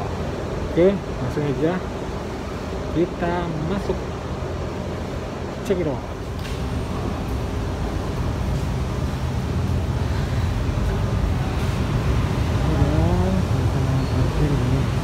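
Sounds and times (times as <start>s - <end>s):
low rumble of car park: 0.0s - 15.0s.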